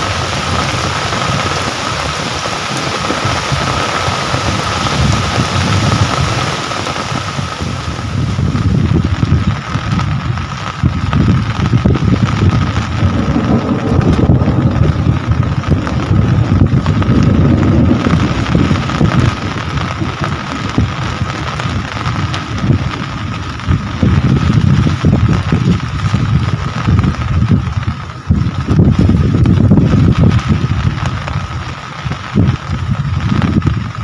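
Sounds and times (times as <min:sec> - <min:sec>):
heavy gusting low rumble: 0:00.0 - 0:34.0
steady rain falling: 0:00.0 - 0:34.0.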